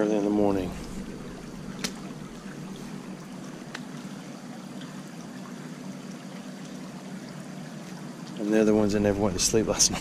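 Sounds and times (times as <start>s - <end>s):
low steady hum: 0.0s - 10.0s
creek water flowing over rocks: 0.2s - 10.0s.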